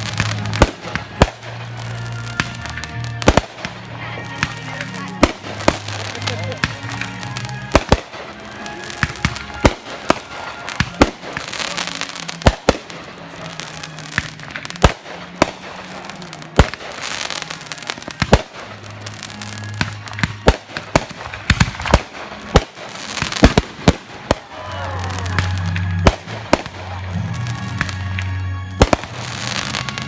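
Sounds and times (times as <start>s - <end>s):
fireworks bangs: 0.0s - 30.0s
fireworks crackling hiss: 0.0s - 30.0s.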